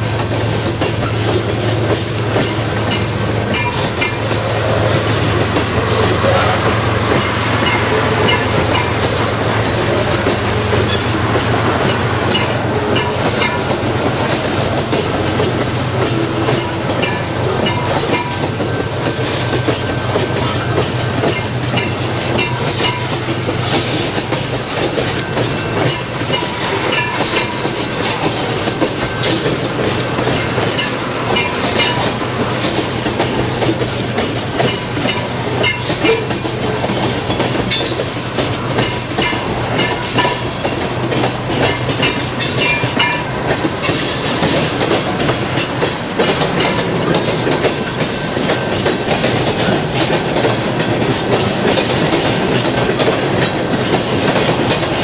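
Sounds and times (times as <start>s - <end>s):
freight cars rumbling: 0.0s - 55.0s
wheels clicking over rail joints: 0.0s - 55.0s.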